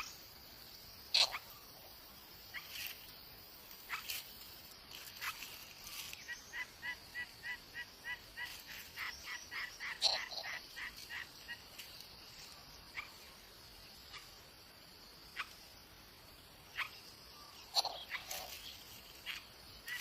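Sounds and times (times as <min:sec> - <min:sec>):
insects hissing: 0:00.0 - 0:20.0
bird calling: 0:01.1 - 0:14.5, 0:16.6 - 0:20.0.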